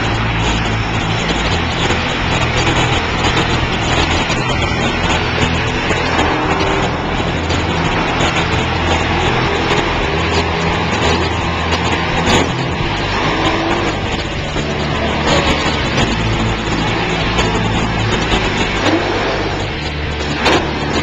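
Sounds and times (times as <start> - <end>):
monster truck engine running: 0.0 - 21.0.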